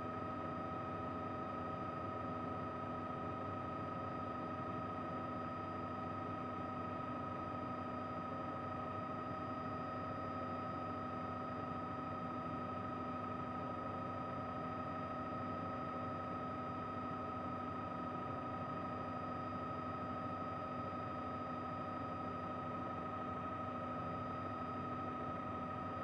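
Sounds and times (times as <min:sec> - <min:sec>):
helicopter in flight: 0:00.0 - 0:26.0.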